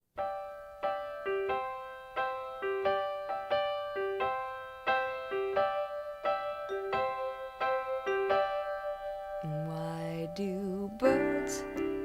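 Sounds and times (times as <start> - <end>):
piano playing slow chords: 0.2 - 12.0.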